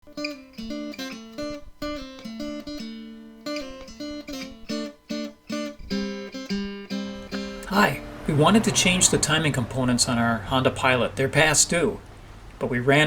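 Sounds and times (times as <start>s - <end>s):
acoustic guitar picking: 0.0s - 13.0s.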